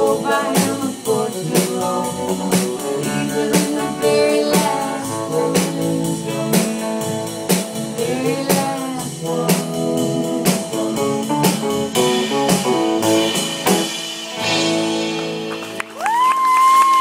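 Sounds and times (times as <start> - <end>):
blues guitar with bent notes: 0.0 - 16.0
drum kit beat: 0.0 - 17.0.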